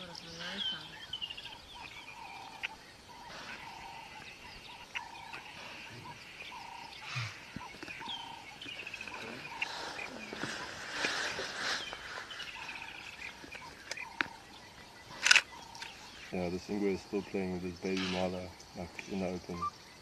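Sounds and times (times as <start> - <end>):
wild birds calling: 0.0 - 20.0.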